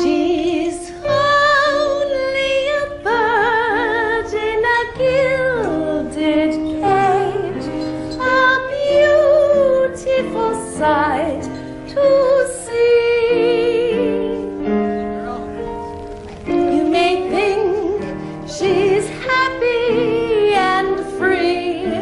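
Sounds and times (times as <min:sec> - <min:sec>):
woman singing with vibrato: 0:00.0 - 0:14.8, 0:16.5 - 0:22.0
instrumental accompaniment: 0:00.0 - 0:22.0.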